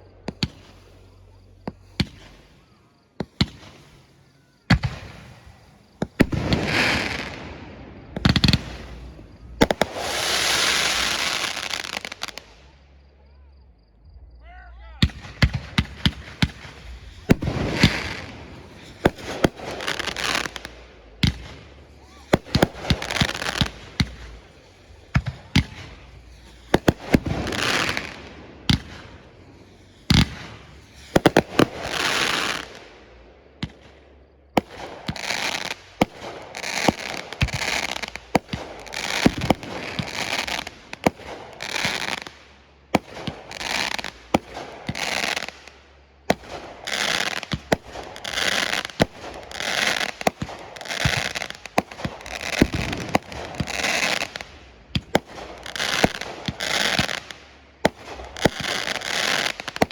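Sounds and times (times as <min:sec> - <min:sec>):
fireworks bangs: 0:00.0 - 0:59.9
fireworks hissing: 0:00.0 - 0:59.9.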